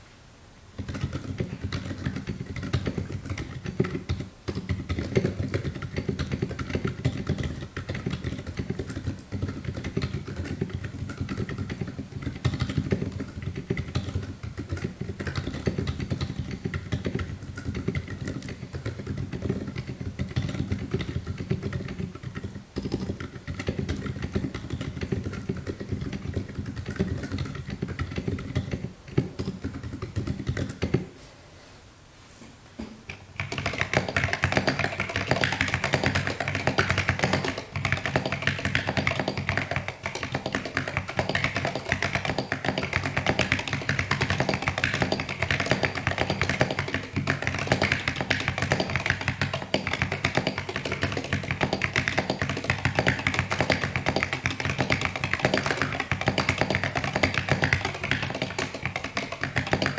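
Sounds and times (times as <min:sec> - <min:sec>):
mechanical keyboard typing: 0:00.8 - 0:31.0, 0:33.4 - 0:59.9.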